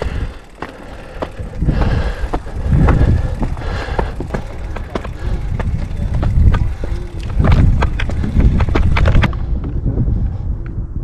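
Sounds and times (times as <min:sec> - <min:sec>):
bike rattling clicks and knocks: 0:00.0 - 0:09.8
wind buffeting microphone: 0:00.0 - 0:11.0.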